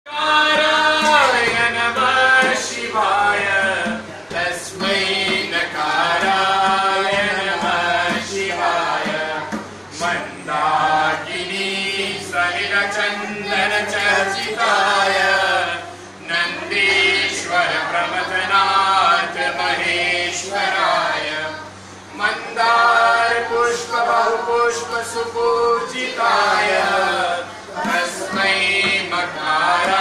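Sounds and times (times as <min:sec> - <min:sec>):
group chanting a hymn: 0:00.1 - 0:30.0.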